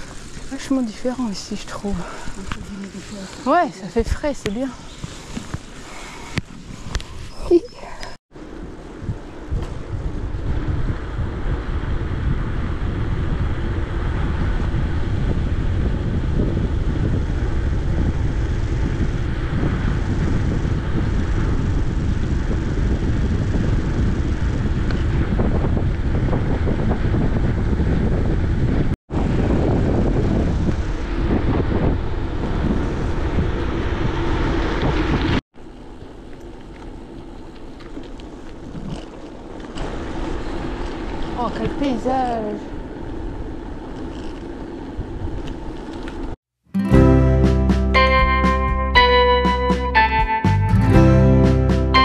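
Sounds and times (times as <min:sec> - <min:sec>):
wind rushing over microphone: 0:00.0 - 0:35.4, 0:38.5 - 0:46.4.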